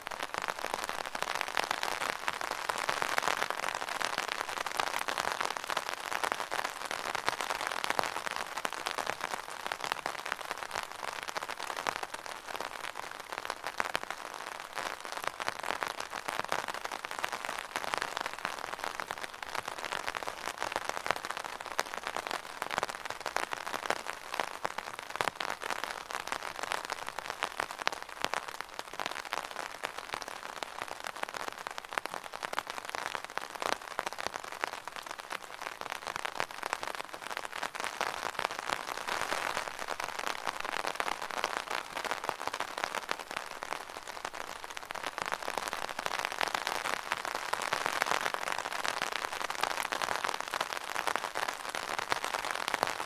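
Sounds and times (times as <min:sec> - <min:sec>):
rain on an umbrella: 0:00.0 - 0:53.0.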